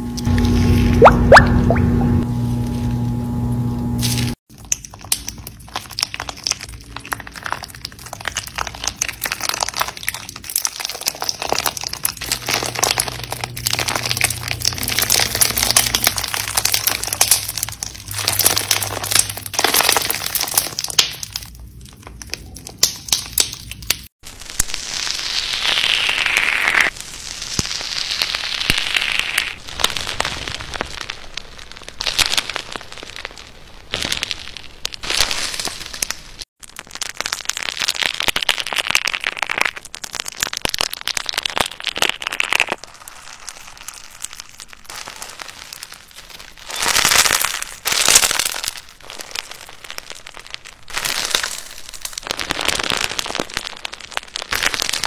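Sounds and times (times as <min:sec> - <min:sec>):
beaded slime crackling: 0:04.0 - 0:55.0
foam slime squishing: 0:04.0 - 0:55.0.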